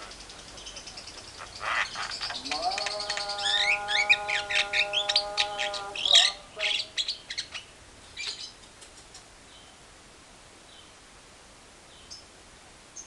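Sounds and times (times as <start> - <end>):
songbirds chirping and trilling: 0.0 - 11.1, 11.7 - 13.0.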